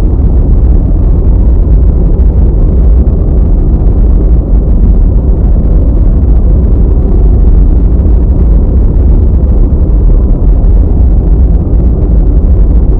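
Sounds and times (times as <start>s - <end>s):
faint hum: 0.0s - 12.9s
steady low rumble: 0.0s - 12.9s.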